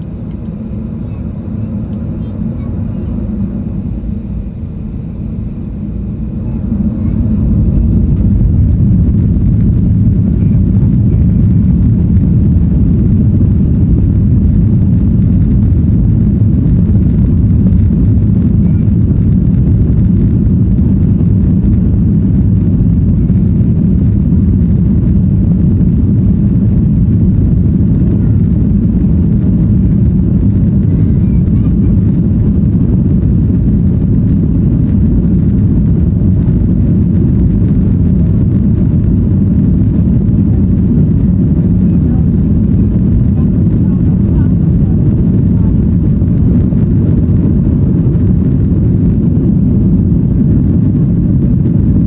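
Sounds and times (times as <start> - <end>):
jet engines spooling up: 0.0 - 51.7.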